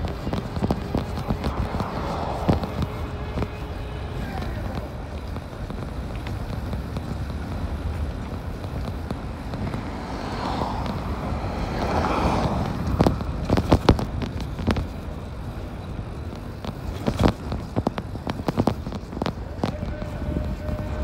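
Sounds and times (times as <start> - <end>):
bike knocking and rattling: 0.0 - 21.0
wind and road rumble: 0.0 - 21.0.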